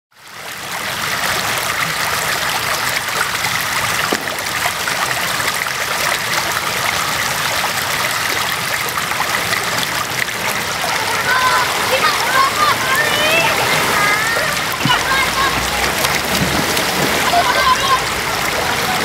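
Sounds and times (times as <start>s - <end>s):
river water rushing over rocks: 0.3s - 19.0s.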